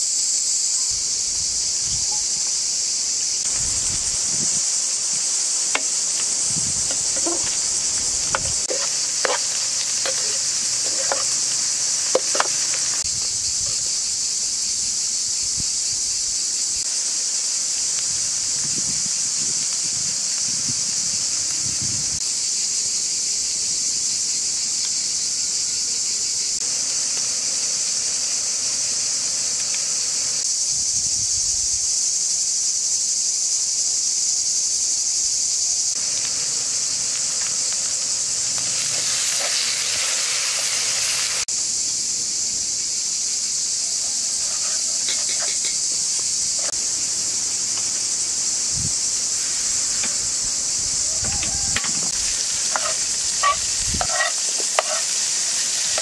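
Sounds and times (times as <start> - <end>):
onions sizzling in a pan: 0.0 - 30.6, 35.9 - 56.0.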